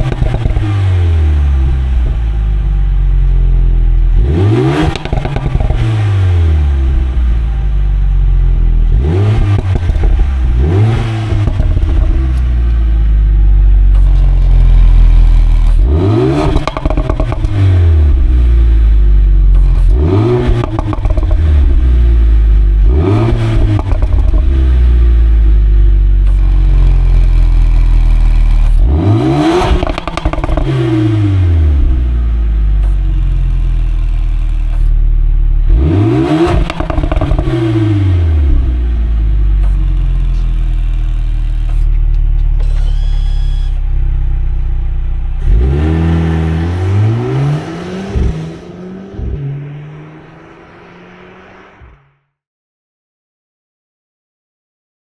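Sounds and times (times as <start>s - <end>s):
exhaust crackling: 0.0s - 52.2s
car engine revving and idling: 0.0s - 52.3s.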